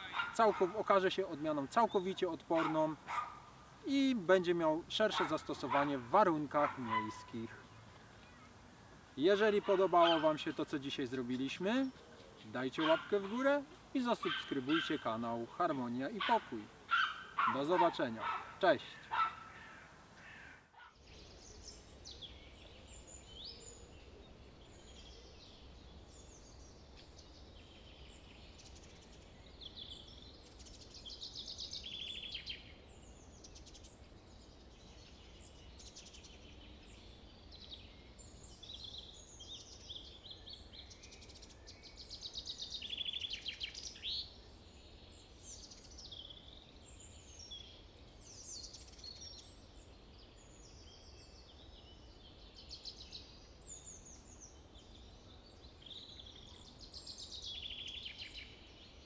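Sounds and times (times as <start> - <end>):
songbirds chirping: 0.0 - 59.0
trilled birdsong: 0.0 - 59.0.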